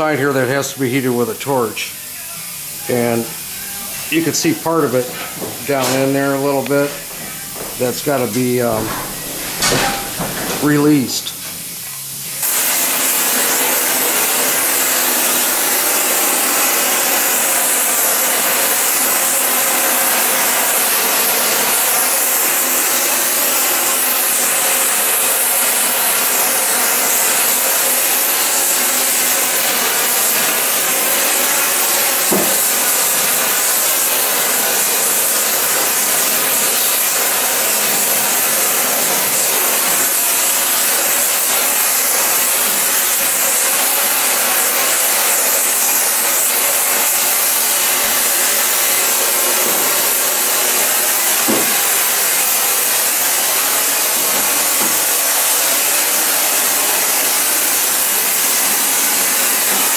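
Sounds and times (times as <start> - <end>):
welding torch flame hissing: 0.0 - 59.9.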